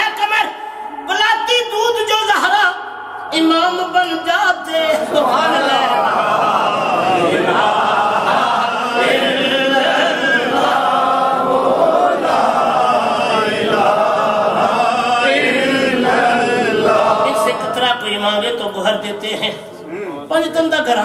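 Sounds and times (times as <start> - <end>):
congregation chanting in unison: 0.0 - 19.0.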